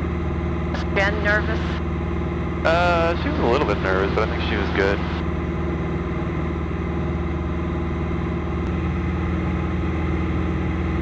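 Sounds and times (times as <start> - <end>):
airplane engine drone in cabin: 0.0 - 11.0.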